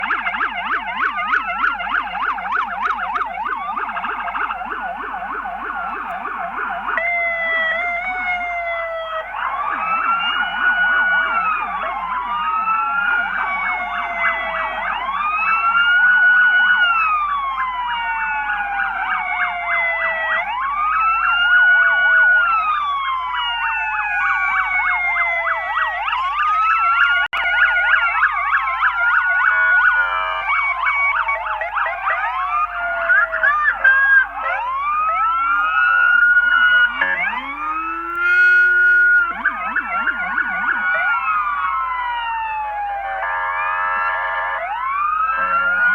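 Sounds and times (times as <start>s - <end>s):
police siren slow wail: 0.0s - 45.9s
police siren yelp warble: 0.0s - 45.9s.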